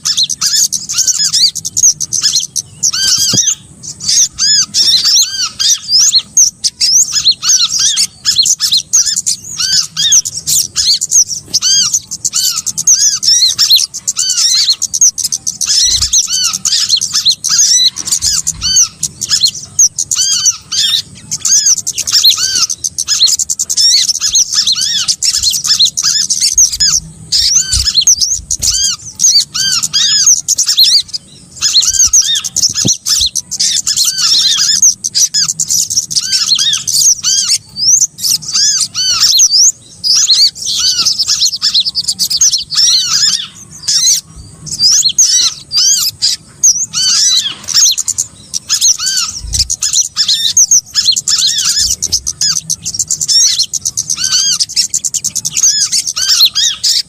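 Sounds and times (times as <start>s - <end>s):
small songbirds chirping rapidly: 0.0s - 57.0s.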